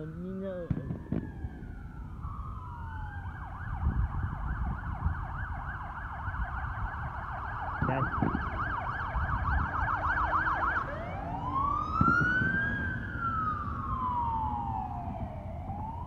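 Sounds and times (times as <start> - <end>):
police car siren: 0.0 - 16.0.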